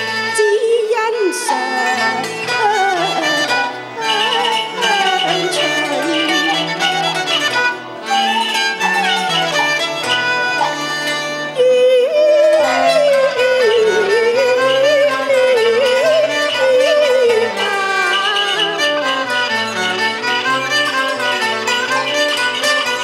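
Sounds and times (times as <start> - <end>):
bowed fiddle melody: 0.0 - 23.0
opera music ensemble: 0.0 - 23.0.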